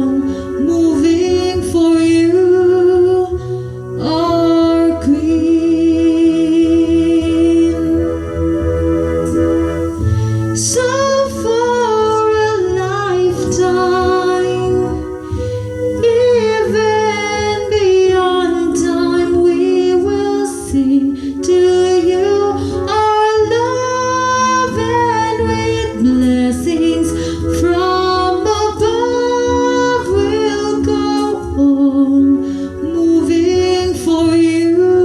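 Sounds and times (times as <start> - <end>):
woman singing: 0.0 - 9.4, 10.4 - 35.0
instrumental accompaniment with bass: 0.0 - 35.0.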